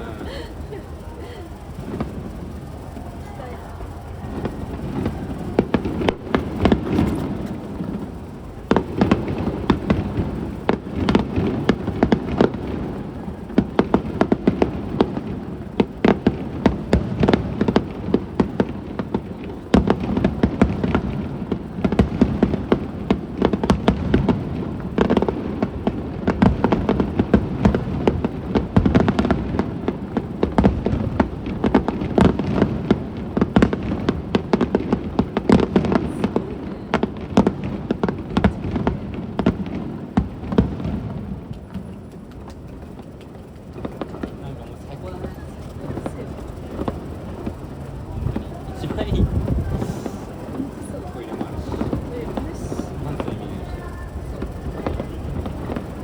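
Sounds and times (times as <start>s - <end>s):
deep fireworks booms: 0.0s - 56.0s
fireworks bangs and crackles: 0.0s - 56.0s.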